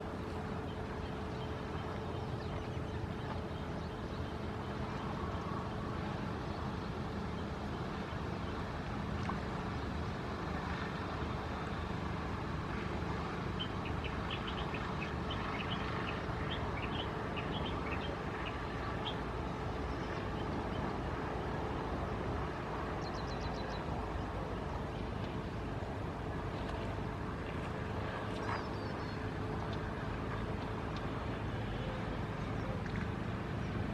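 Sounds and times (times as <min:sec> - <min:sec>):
constant hum: 0:00.0 - 0:33.9
low background rumble: 0:00.0 - 0:33.9.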